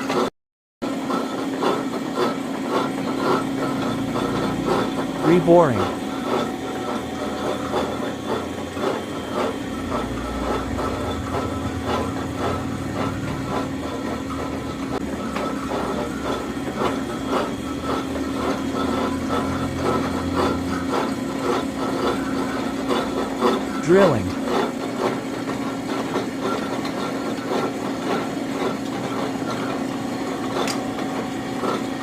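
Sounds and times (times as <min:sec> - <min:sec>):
lathe humming: 0:00.9 - 0:32.0.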